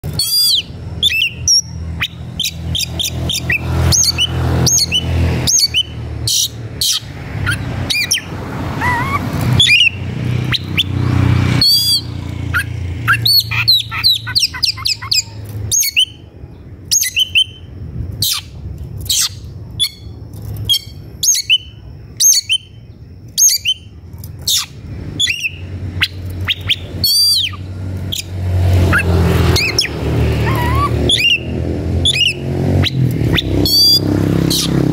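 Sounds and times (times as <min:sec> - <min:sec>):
low engine-like rumble: 0:00.0 - 0:34.9
bird singing sharp whistles: 0:00.1 - 0:08.3, 0:08.9 - 0:11.0, 0:11.6 - 0:16.2, 0:16.9 - 0:17.7, 0:20.7 - 0:22.8, 0:23.4 - 0:23.9, 0:24.5 - 0:28.3, 0:28.9 - 0:34.7.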